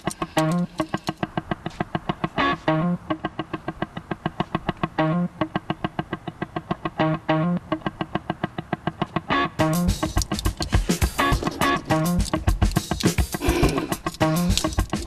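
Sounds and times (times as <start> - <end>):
guitar picking notes: 0.0 - 15.0.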